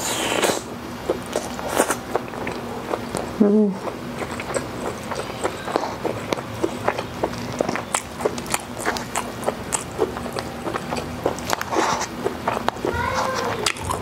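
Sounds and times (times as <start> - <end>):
chewing food: 0.0 - 14.0.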